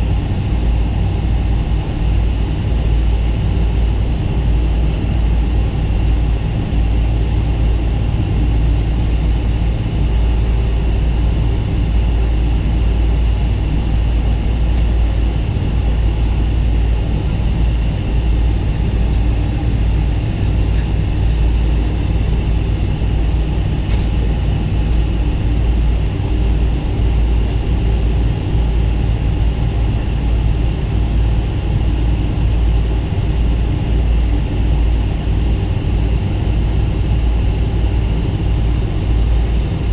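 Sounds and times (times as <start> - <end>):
faint steady hum: 0.0 - 39.9
jet engine cabin rumble: 0.0 - 39.9.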